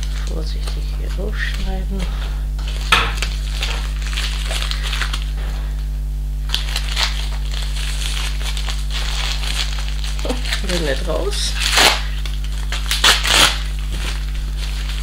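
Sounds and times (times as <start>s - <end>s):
plastic pouch crinkling: 0.0s - 5.6s, 6.4s - 15.0s
steady low hum: 0.0s - 15.0s.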